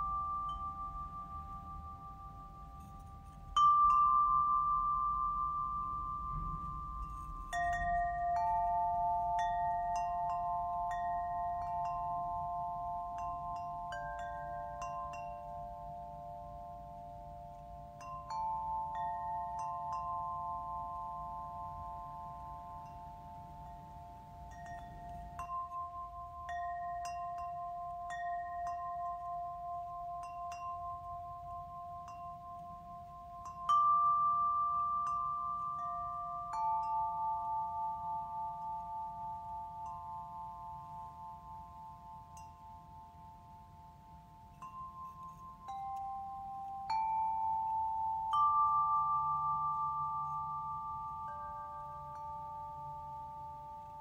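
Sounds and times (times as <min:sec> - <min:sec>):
metal chimes ringing: 0:00.0 - 0:54.0.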